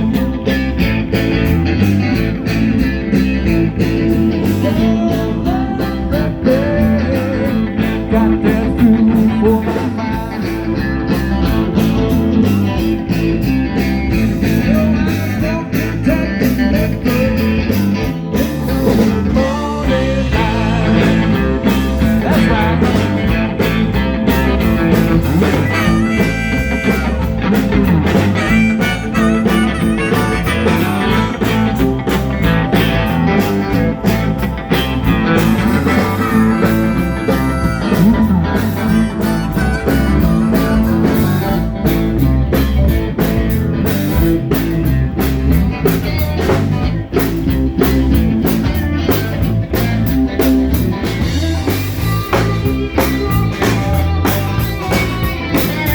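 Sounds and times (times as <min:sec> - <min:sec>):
bass guitar: 0:00.0 - 0:55.9
electric guitar: 0:00.0 - 0:55.9
steady drum beat: 0:00.0 - 0:55.9.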